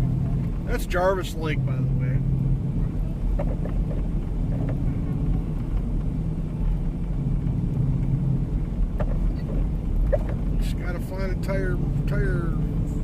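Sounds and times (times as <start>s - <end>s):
vehicle engine and tyres rumble: 0.0s - 13.0s.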